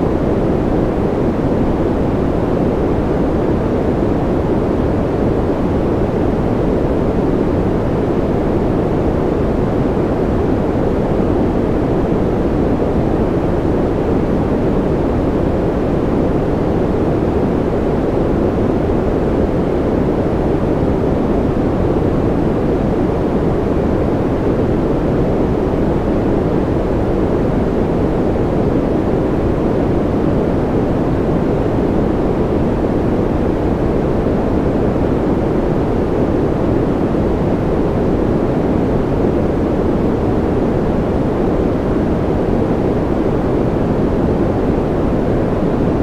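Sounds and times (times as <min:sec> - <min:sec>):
white noise hiss: 0:00.0 - 0:46.0.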